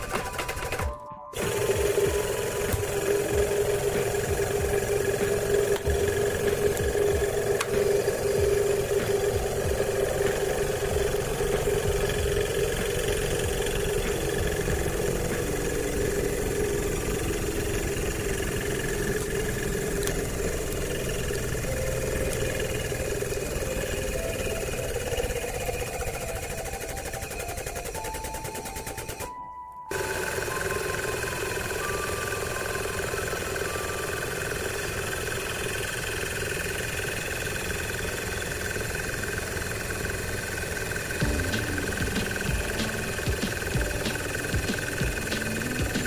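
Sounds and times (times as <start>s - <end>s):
hydraulic pump motor humming: 0.0s - 46.0s.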